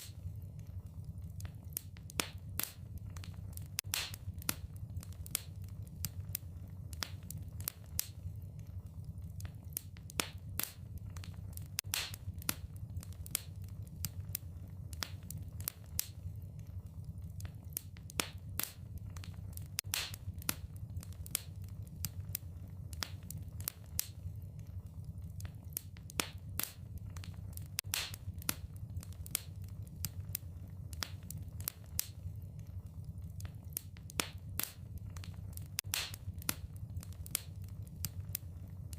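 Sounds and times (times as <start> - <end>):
fire low rumble: 0.0 - 38.9
wood fire snapping and popping: 0.0 - 38.9.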